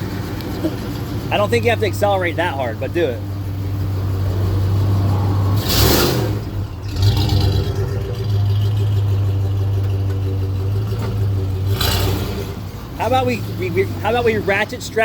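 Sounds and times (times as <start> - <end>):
truck engine accelerating: 0.0 - 15.0.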